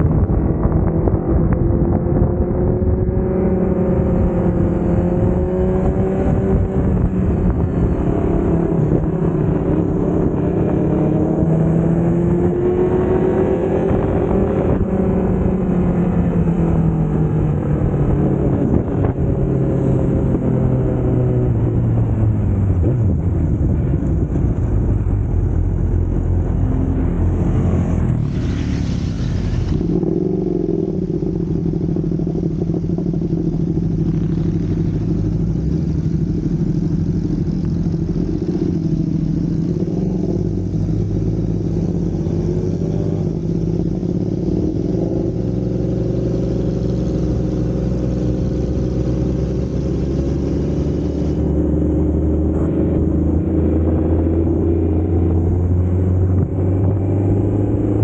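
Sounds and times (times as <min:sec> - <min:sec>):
motorcycle engine cruising: 0:00.0 - 0:58.0
road and wind noise: 0:00.0 - 0:58.0.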